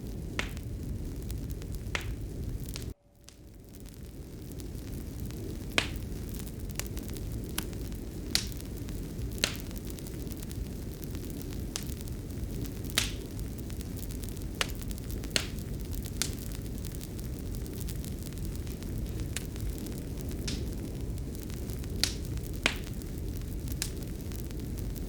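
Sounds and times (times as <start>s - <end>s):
fire crackling and popping: 0.0s - 25.0s
low rush of burning: 0.0s - 25.0s.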